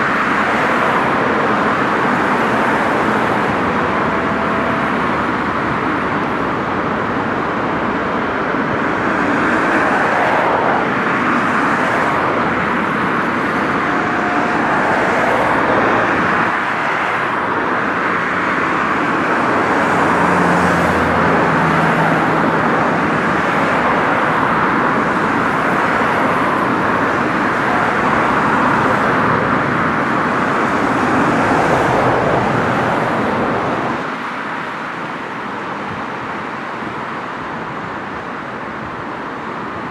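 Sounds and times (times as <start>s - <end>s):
cars passing on road: 0.0s - 39.9s.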